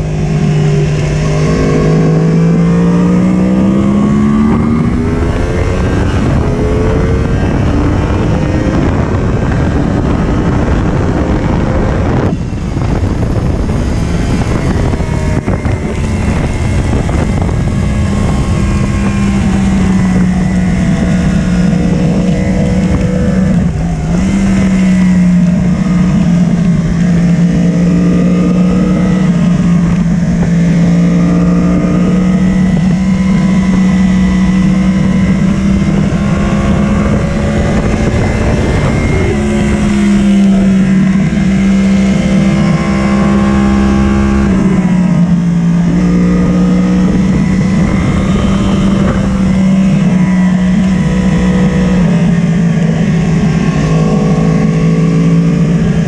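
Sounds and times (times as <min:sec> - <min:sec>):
motorcycle engine at high speed: 0:00.0 - 0:56.0
wind rushing over microphone: 0:00.0 - 0:56.0.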